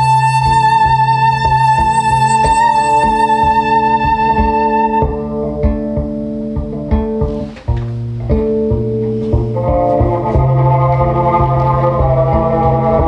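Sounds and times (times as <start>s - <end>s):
looped electric cello music: 0.0s - 13.0s.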